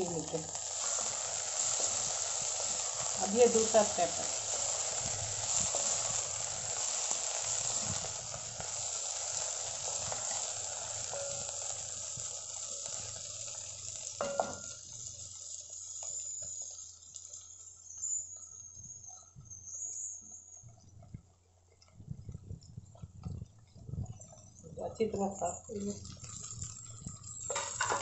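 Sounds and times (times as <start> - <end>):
okra sizzling in oil: 0.0 - 28.0.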